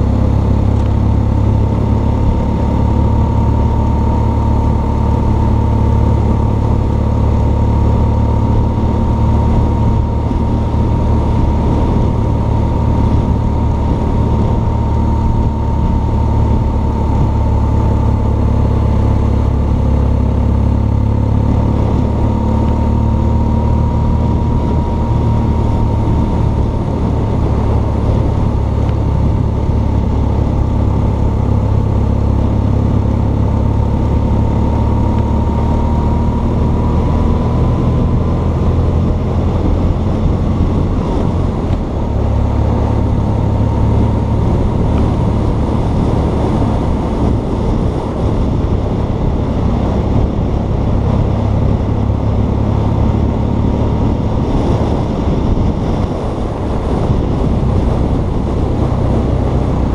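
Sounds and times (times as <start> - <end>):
motorcycle engine cruising: 0.0 - 59.9
steady high whine: 0.0 - 59.9
wind rumble: 0.0 - 59.9.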